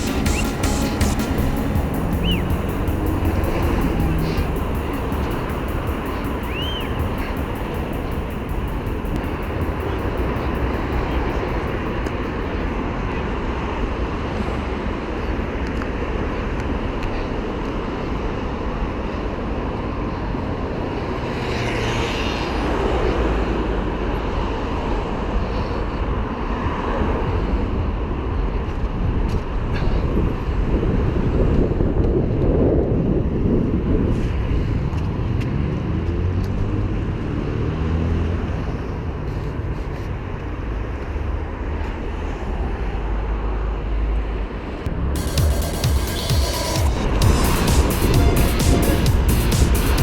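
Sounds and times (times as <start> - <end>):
road rumble: 0.0 - 50.0
traffic noise: 0.0 - 50.0
wind: 0.0 - 50.0.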